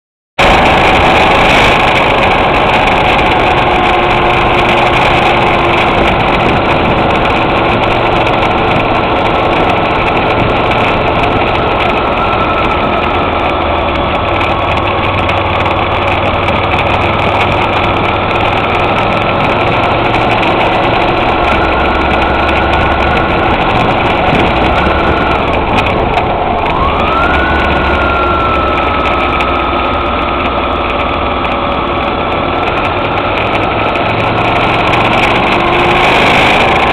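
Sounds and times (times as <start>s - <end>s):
motorcycle engine running: 0.4s - 36.9s.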